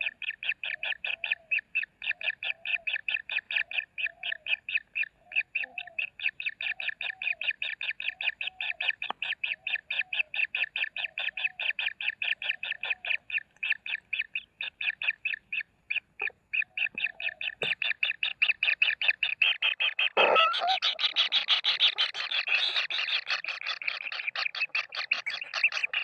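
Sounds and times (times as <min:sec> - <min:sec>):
nestlings begging calls: 0:00.2 - 0:26.0.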